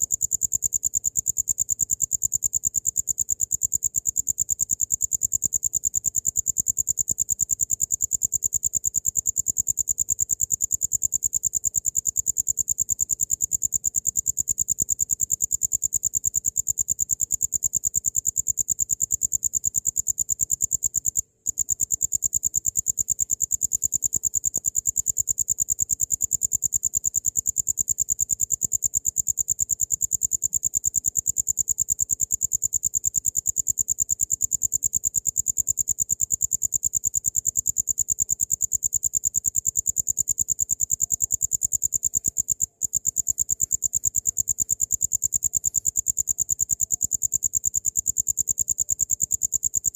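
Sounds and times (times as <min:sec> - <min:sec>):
cricket chirping trill: 0:00.0 - 0:49.9.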